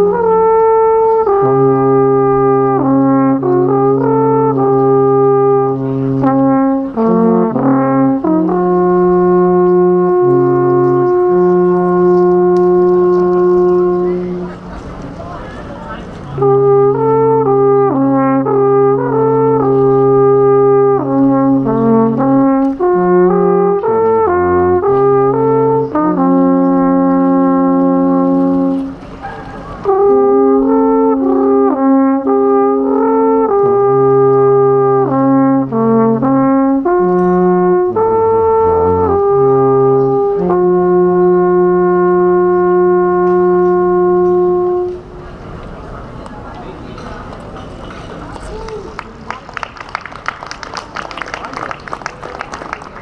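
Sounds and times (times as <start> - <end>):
alphorns playing slow melody: 0.0 - 14.6, 16.4 - 29.0, 29.8 - 45.2.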